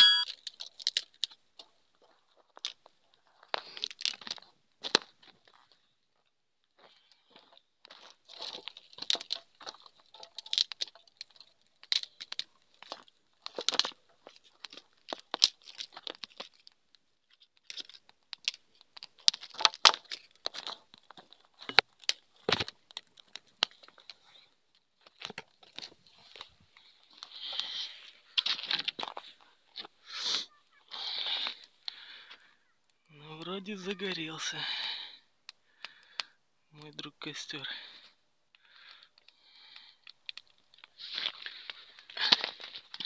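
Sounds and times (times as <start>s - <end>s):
twig kindling crackling: 0.3s - 5.8s, 7.3s - 36.3s, 38.5s - 43.0s.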